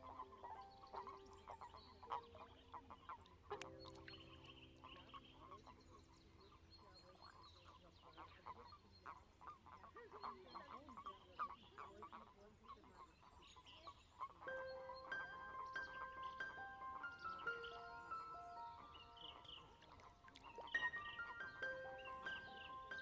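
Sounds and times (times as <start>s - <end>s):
toads croaking: 0.0s - 13.0s, 13.7s - 23.0s.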